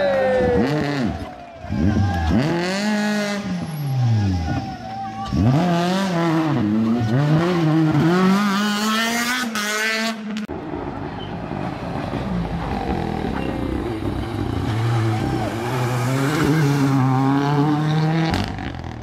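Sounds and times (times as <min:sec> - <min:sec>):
distant engine: 0:00.1 - 0:19.0
rally car engine revving: 0:00.2 - 0:19.0.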